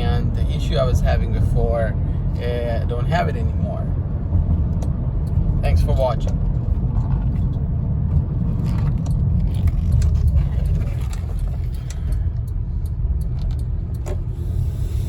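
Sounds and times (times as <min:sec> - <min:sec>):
minivan engine rumbling: 0:00.0 - 0:15.0.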